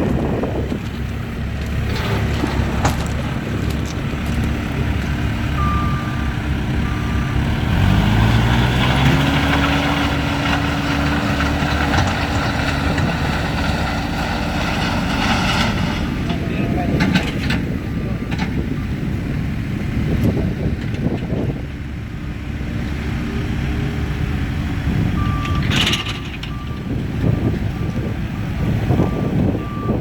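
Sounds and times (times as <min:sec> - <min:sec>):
diesel engine running and revving: 0:00.0 - 0:30.0.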